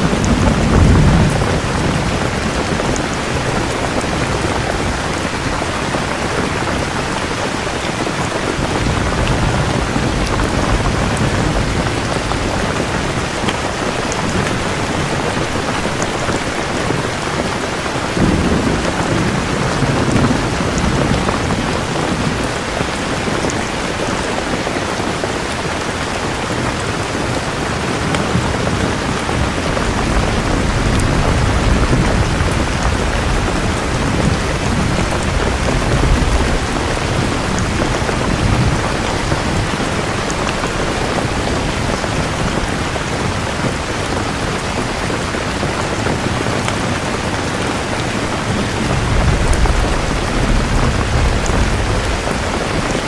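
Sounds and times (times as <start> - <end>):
heavy rain: 0.0 - 53.0
thunder rumbles: 0.0 - 53.0.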